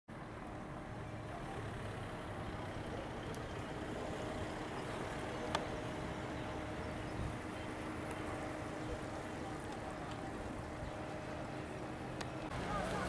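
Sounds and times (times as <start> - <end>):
faint motor hum: 0.1 - 13.0
steady outdoor rumble: 0.1 - 13.0.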